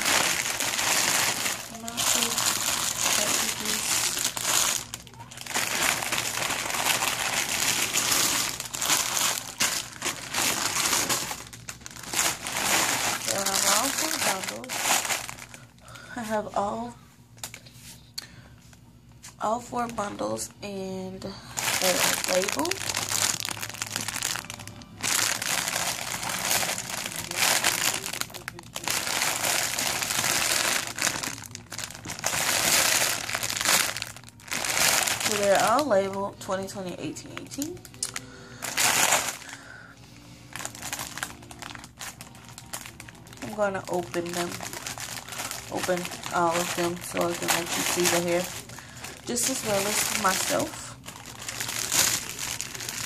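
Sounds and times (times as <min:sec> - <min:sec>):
packaging crinkling: 0:00.0 - 0:16.1, 0:21.4 - 0:36.8, 0:37.4 - 0:53.0.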